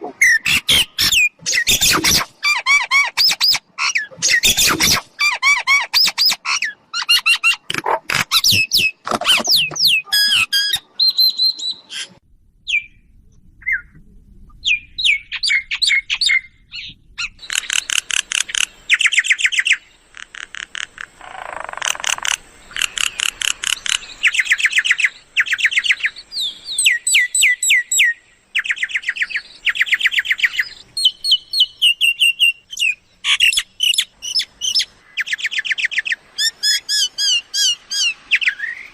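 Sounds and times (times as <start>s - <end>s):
birds whistling and chattering: 0.0s - 7.7s, 8.3s - 13.0s, 14.6s - 20.2s, 20.8s - 38.9s.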